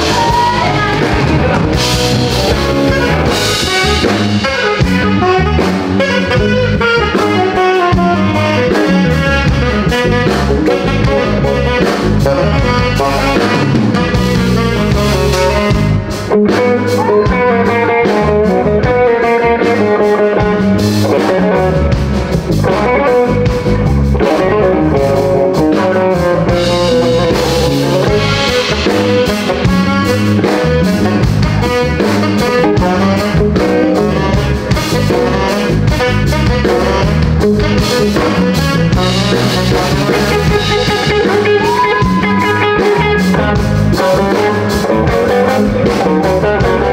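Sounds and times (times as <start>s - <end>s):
blues band playing: 0.0s - 46.9s
drum kit beat: 0.0s - 46.9s
electric guitar: 0.0s - 46.9s.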